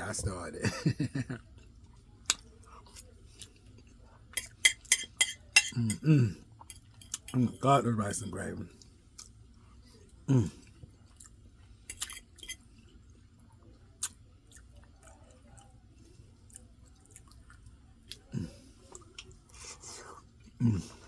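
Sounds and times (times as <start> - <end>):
person chewing food: 1.4 - 7.4, 8.8 - 21.0.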